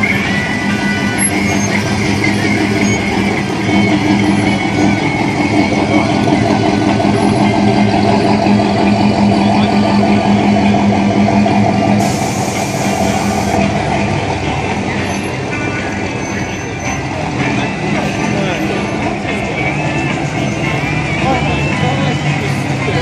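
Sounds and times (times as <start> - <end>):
car engine rumbling at low speed: 0.0 - 23.0.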